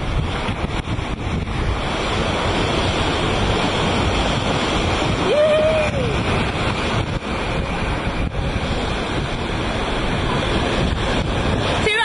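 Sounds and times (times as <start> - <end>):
sea water rushing and breaking: 0.0 - 12.0
wind buffeting microphone: 0.0 - 12.0.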